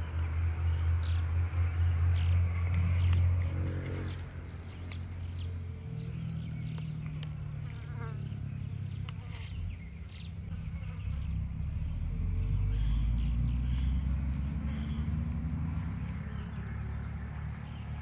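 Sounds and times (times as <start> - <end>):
bird chirps: 0.6 - 18.0.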